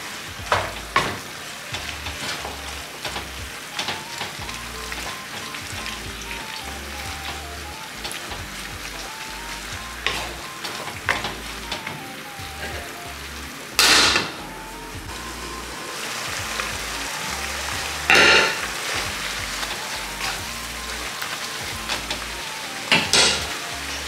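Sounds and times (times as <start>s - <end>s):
meat and vegetables sizzling in pan: 0.0s - 24.0s.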